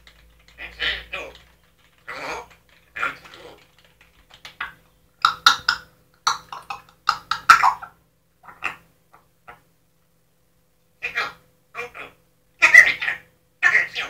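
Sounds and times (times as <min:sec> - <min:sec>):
parrot chattering: 0:00.1 - 0:09.7, 0:11.0 - 0:14.0.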